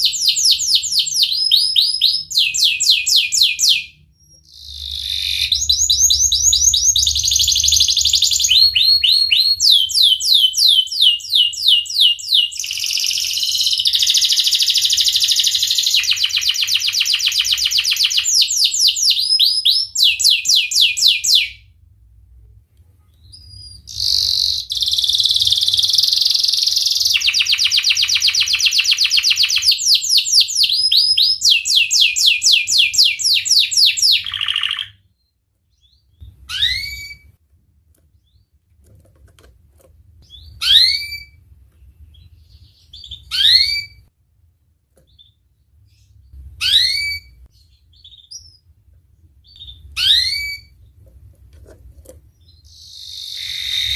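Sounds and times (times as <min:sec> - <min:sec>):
canary singing rolled trills: 0:00.0 - 0:21.6, 0:23.1 - 0:37.4, 0:40.2 - 0:44.1, 0:45.1 - 0:48.8, 0:49.4 - 0:51.0, 0:52.2 - 0:53.9.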